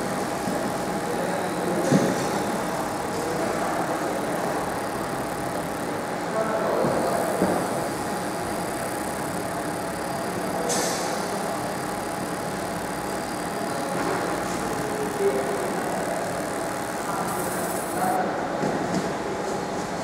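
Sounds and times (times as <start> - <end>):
laser machine hum and whir: 0.0 - 18.4.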